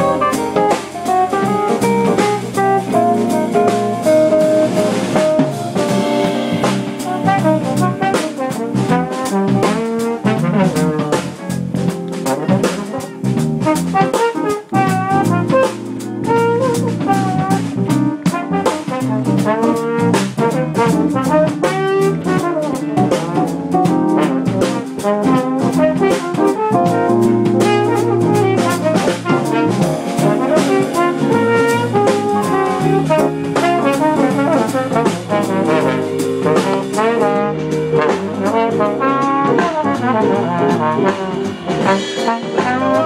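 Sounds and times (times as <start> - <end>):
jazz band playing: 0.0 - 43.0
trombone lead line: 0.0 - 43.0.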